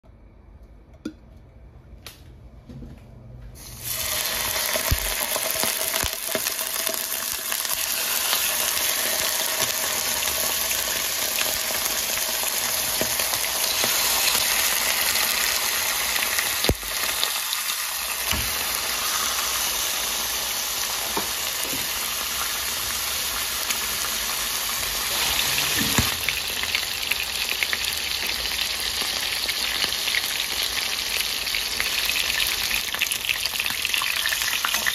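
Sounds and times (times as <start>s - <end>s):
chicken sizzling in hot oil: 3.6s - 34.9s.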